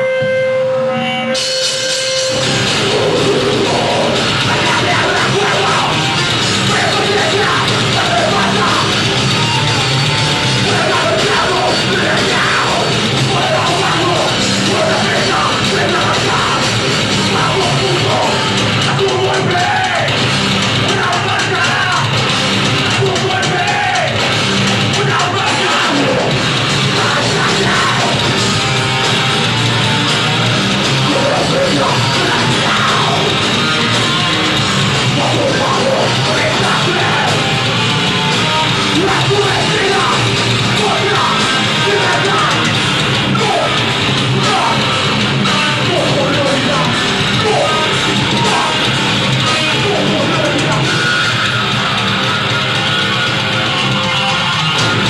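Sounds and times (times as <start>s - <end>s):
live rock band playing: 0.0s - 55.0s
shouted vocals: 2.4s - 52.1s.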